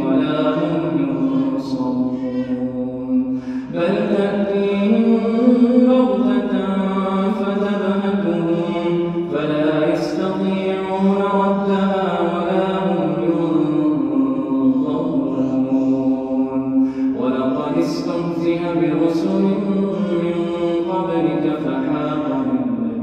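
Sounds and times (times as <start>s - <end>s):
man chanting recitation: 0.0s - 23.0s.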